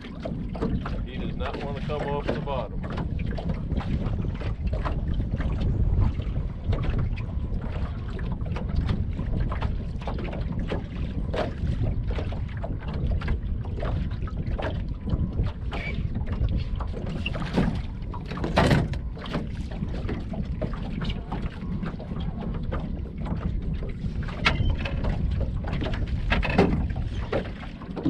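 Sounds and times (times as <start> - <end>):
wind buffeting the microphone: 0.0 - 28.0.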